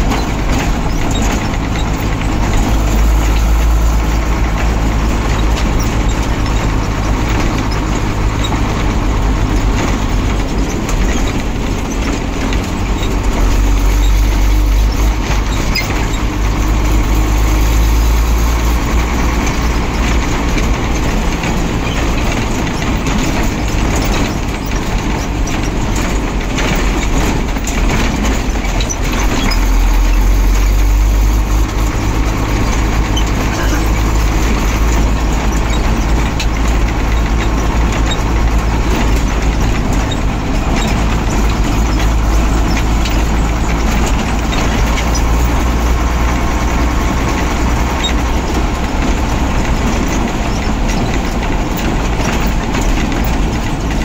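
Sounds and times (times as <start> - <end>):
road noise: 0.0 - 54.0
truck diesel engine rumbling: 0.0 - 54.0.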